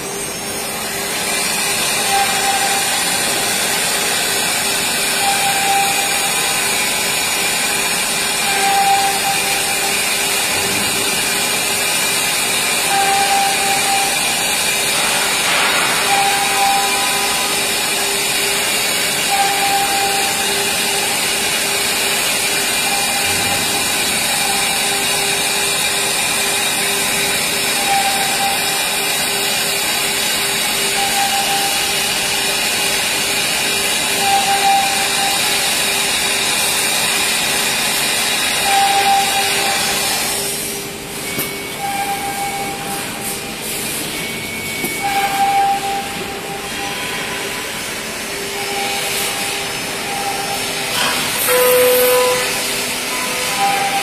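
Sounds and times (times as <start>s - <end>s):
router spindle whine: 0.0s - 54.0s.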